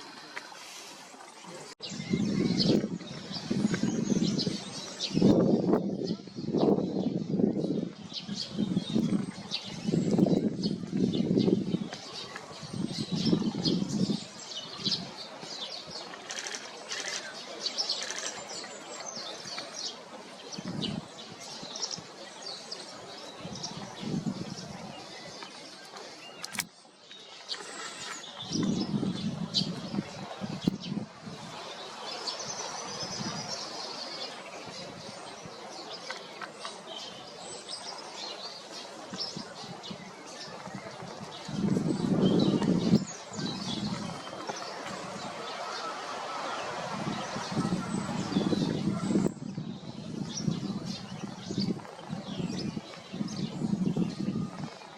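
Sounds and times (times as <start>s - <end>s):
faint outdoor background noise: 0.0s - 54.9s
small songbirds chirping: 1.8s - 54.9s.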